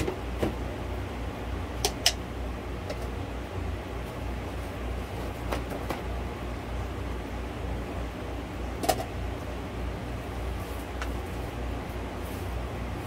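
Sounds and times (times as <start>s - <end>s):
ventilation fans humming: 0.0s - 13.0s.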